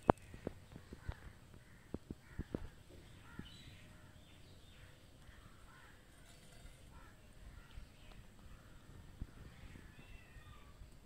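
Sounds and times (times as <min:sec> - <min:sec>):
faint bird calls: 0:00.0 - 0:10.9.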